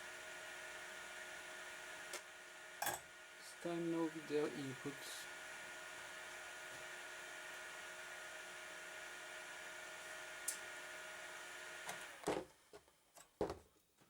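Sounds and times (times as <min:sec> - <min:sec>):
computer cooling fan whirring: 0:00.0 - 0:12.2.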